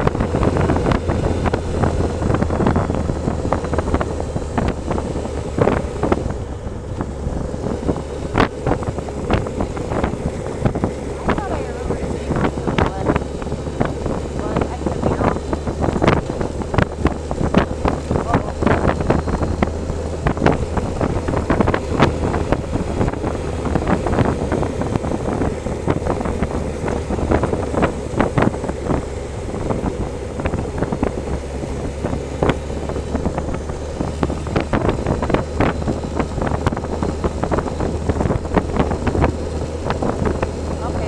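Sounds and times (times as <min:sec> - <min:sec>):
motorcycle engine droning: 0:00.0 - 0:41.0
wind buffeting microphone: 0:00.0 - 0:41.0.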